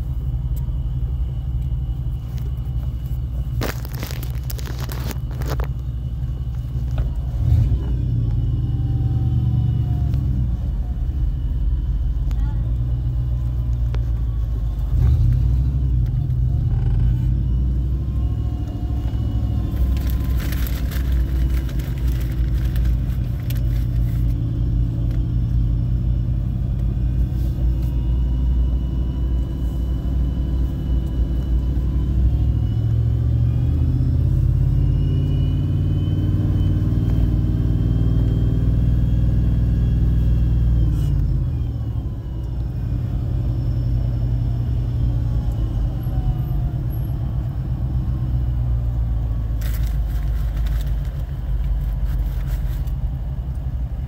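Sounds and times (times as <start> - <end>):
thin whine: 0.0 - 47.8
truck engine running: 0.0 - 54.0.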